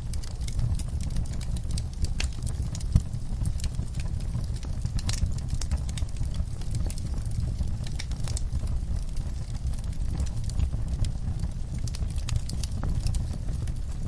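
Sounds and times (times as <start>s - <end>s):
flame rumbling: 0.0s - 14.0s
logs crackling and snapping: 0.0s - 14.0s.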